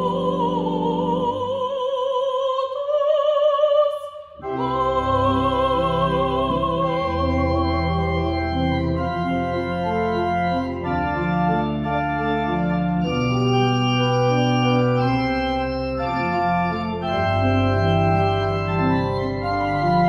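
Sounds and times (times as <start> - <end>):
pipe organ playing chords: 0.0 - 1.5, 4.4 - 20.0.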